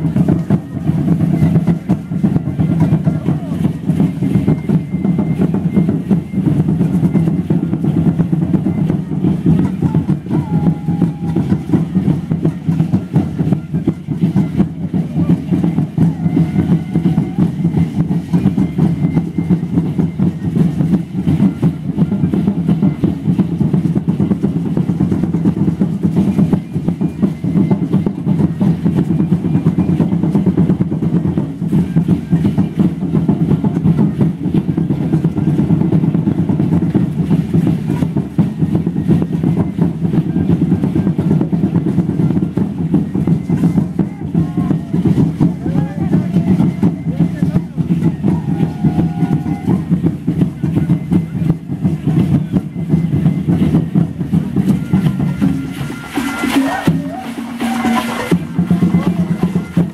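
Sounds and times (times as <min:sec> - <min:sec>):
large drums beaten steadily: 0:00.0 - 0:59.9.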